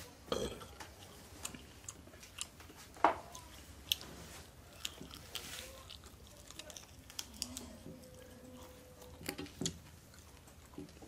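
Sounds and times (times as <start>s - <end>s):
man chewing with lip smacks: 0.7s - 11.0s.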